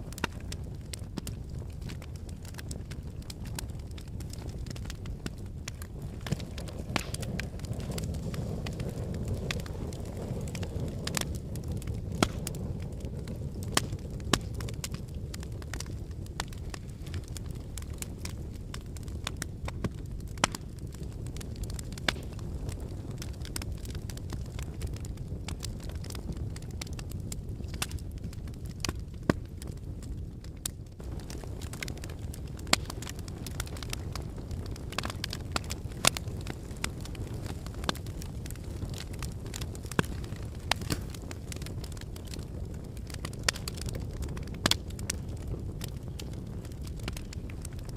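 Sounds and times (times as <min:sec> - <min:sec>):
fire crackling and popping: 0:00.0 - 0:47.9
fire flames rumbling: 0:00.0 - 0:47.9.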